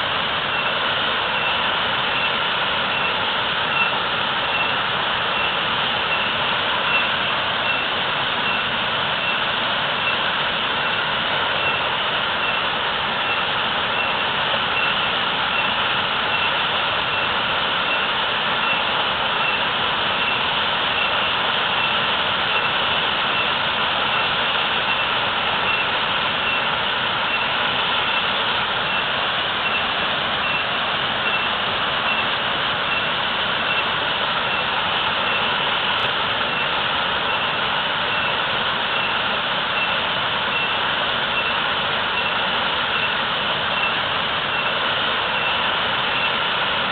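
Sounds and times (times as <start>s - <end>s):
waterfall roar: 0.0s - 46.9s.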